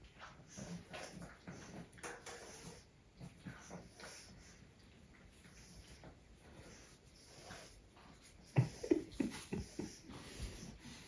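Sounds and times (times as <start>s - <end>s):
puppies snuffling: 0.0s - 11.0s.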